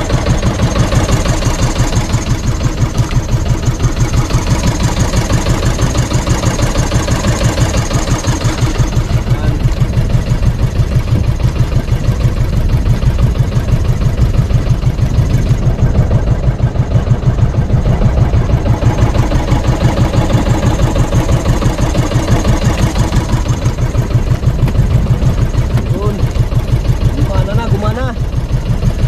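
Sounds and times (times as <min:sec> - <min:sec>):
boat engine running: 0:00.0 - 0:29.0
water rushing past hull: 0:00.0 - 0:29.0.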